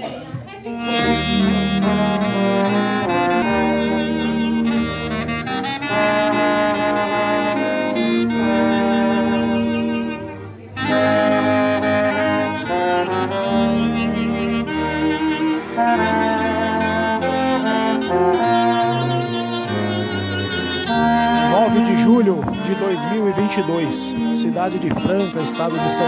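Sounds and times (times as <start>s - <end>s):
small ensemble playing a hymn: 0.0s - 26.0s.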